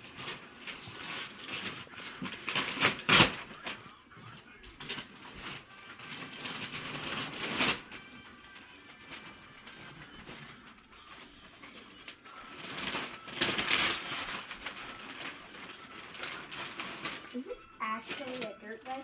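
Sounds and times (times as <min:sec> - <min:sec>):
wrapping paper rustling and tearing: 0:00.0 - 0:19.0.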